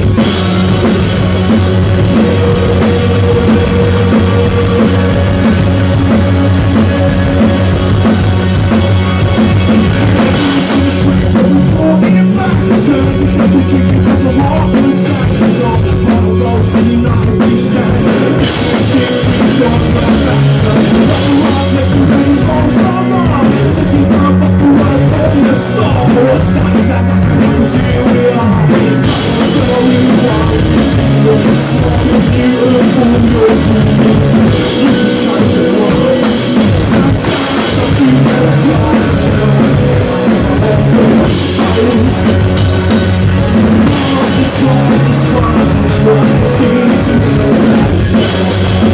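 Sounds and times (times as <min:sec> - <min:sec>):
drums: 0:00.0 - 0:48.9
electric guitar: 0:00.0 - 0:48.9.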